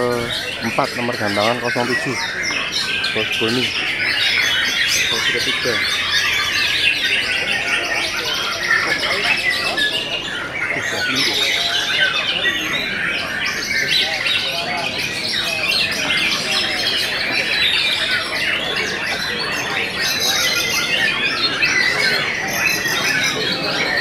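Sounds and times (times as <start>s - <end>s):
chorus of other birds: 0.0s - 24.0s.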